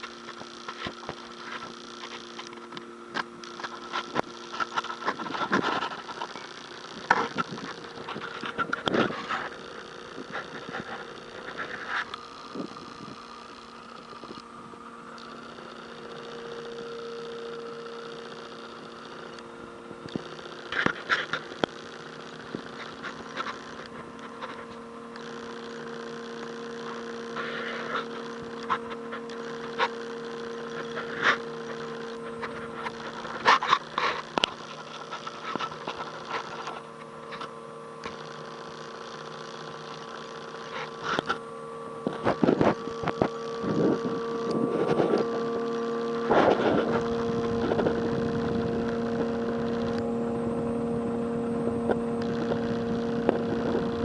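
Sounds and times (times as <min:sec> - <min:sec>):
electrical machine hum: 0:00.0 - 0:54.0.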